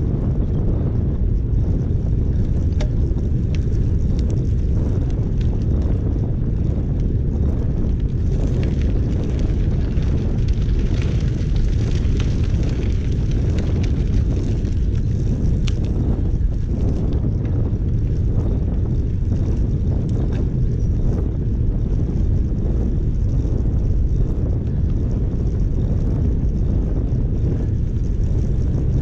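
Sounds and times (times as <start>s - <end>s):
bicycle tyre noise on path: 0.0s - 29.0s
wind buffeting microphone: 0.0s - 29.0s.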